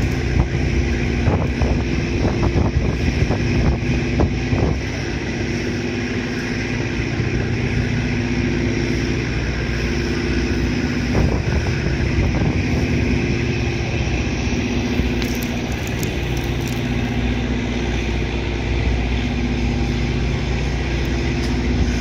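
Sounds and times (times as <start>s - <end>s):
ferry engines droning: 0.0s - 22.0s
wind buffeting microphone: 0.0s - 22.0s.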